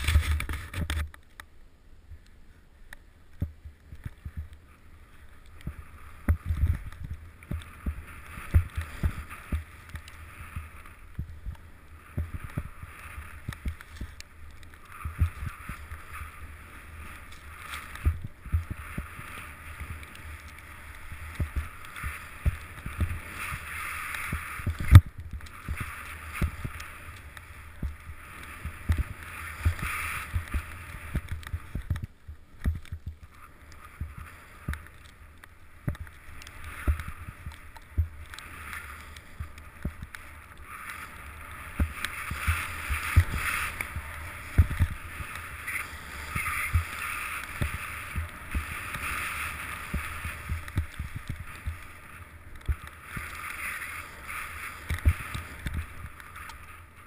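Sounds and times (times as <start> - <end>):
snow hissing under a rider: 4.7 - 31.8, 35.6 - 57.0.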